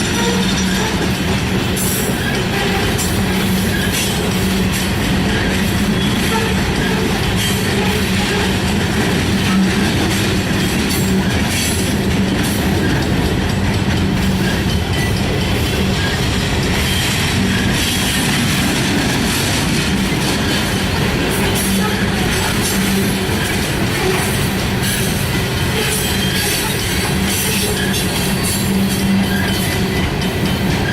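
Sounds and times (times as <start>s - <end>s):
freight train rolling past: 0.0s - 30.9s.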